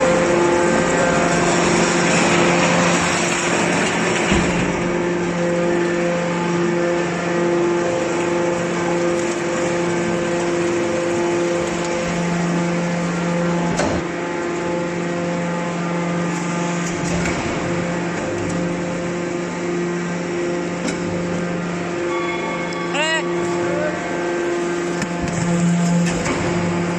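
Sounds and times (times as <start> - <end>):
baler motor and pump whining: 0.0 - 26.9.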